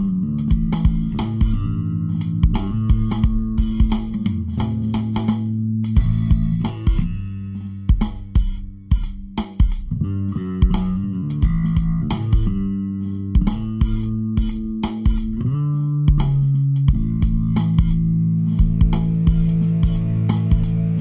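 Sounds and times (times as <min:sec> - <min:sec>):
guitar and bass held notes: 0:00.0 - 0:21.0
steady drum beat: 0:00.0 - 0:21.0.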